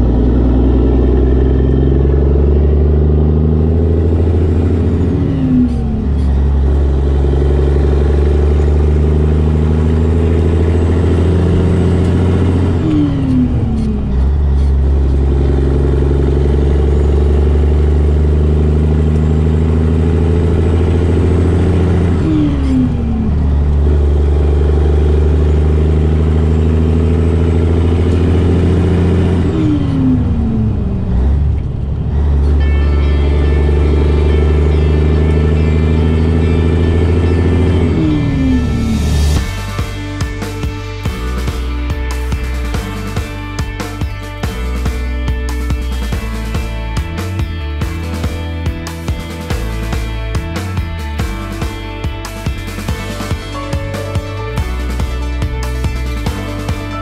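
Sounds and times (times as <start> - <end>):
truck diesel engine under load: 0.0 - 57.0.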